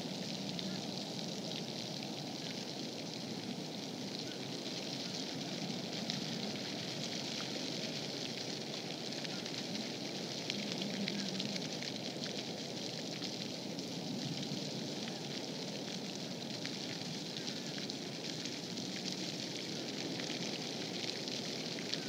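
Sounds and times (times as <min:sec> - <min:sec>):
steady hiss with crackling: 0:00.0 - 0:22.0.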